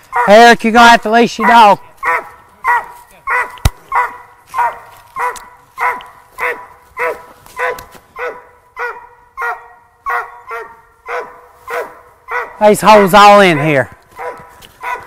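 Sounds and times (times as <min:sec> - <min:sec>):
dog barking: 0:00.1 - 0:00.4, 0:01.4 - 0:12.6, 0:13.4 - 0:15.0.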